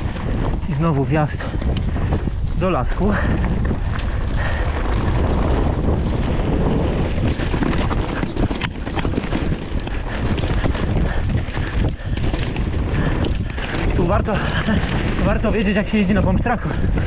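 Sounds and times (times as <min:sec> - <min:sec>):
bike clattering over bumps: 0:00.0 - 0:17.0
tyre noise: 0:00.0 - 0:17.0
wind buffeting microphone: 0:00.0 - 0:17.0.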